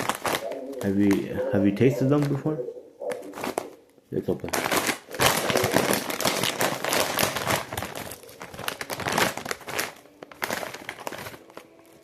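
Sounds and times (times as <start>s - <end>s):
snack bag crinkling: 0.0s - 12.0s.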